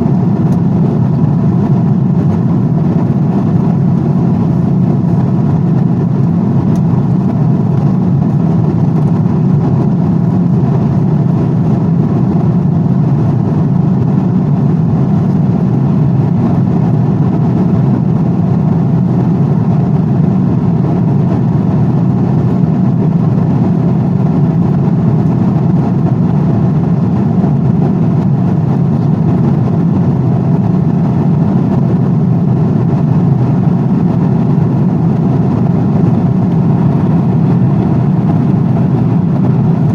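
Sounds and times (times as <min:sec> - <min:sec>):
airplane rumble: 0:00.0 - 0:39.9.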